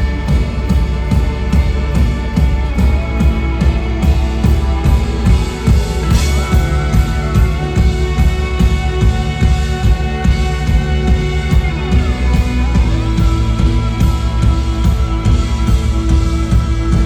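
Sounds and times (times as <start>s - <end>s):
drum kit beat: 0.0s - 17.0s
rock band playing live: 0.0s - 17.0s.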